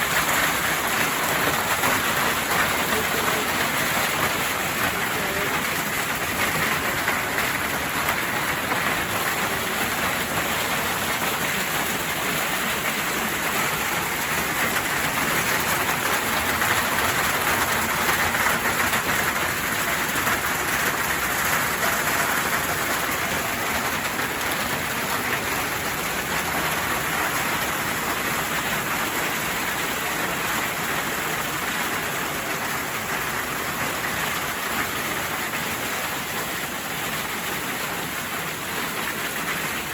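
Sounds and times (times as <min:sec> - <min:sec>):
hail rattling on surfaces: 0:00.0 - 0:39.9.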